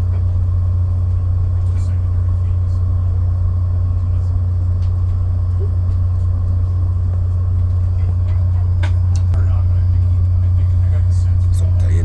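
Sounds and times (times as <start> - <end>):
low hum inside train car: 0.0 - 12.0.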